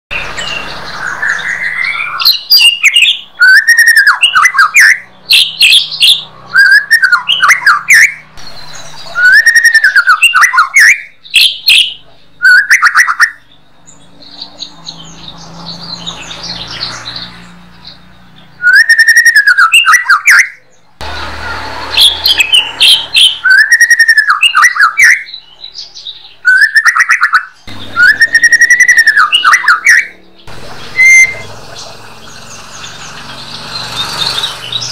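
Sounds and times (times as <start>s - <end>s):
bird whistled song: 0.1s - 20.8s, 21.4s - 34.9s.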